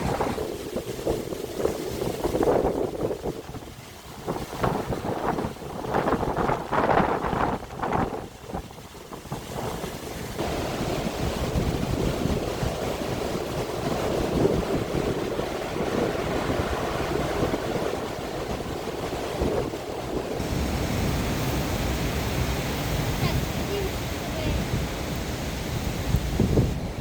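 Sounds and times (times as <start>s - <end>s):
stormy sea surf: 0.0s - 27.0s
wind buffeting microphone: 0.0s - 27.0s.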